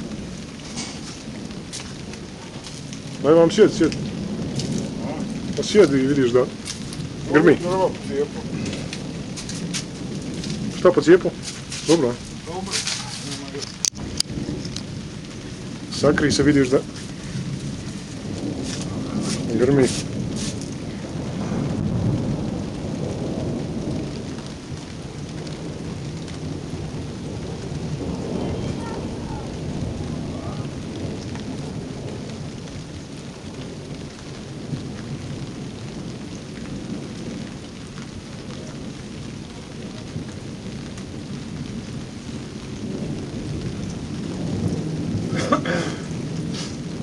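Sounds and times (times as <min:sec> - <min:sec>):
steady rain: 0:00.0 - 0:47.0
thunder rumbling: 0:00.0 - 0:47.0.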